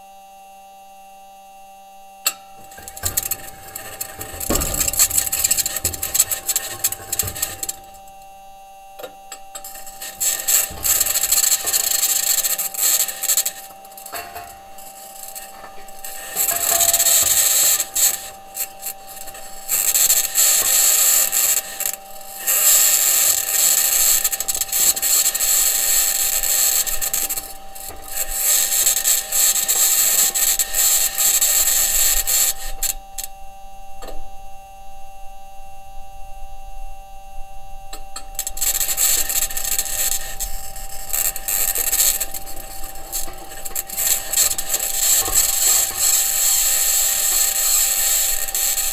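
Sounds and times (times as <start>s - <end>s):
wheels grinding over ground: 2.3s - 33.0s, 38.2s - 48.9s.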